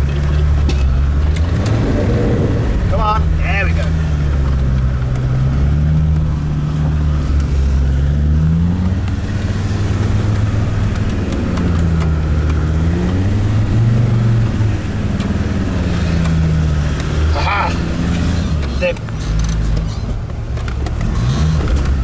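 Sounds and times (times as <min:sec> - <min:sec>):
diesel engine revving off-road: 0:00.0 - 0:22.0.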